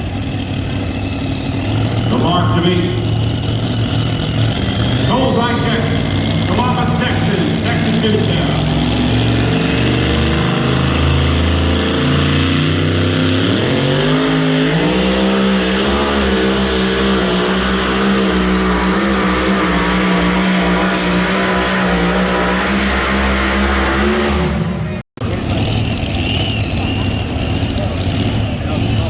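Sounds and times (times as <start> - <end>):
loud pulling engine running: 0.0 - 29.0.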